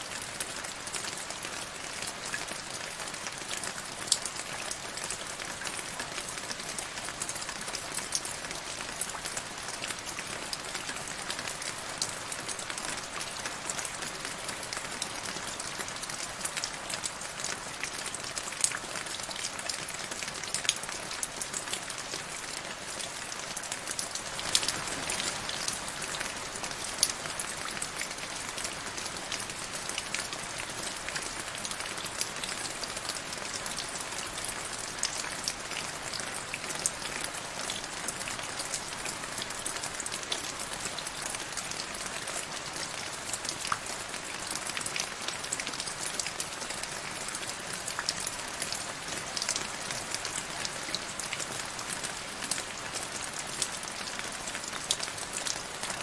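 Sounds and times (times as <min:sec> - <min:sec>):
rain splashing into puddle: 0:00.0 - 0:56.0.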